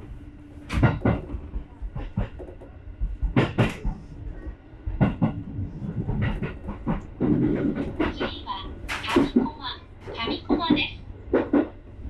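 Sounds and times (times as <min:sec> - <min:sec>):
low train running rumble: 0:00.0 - 0:12.0
train wheels clicking over rail joints: 0:00.6 - 0:11.9.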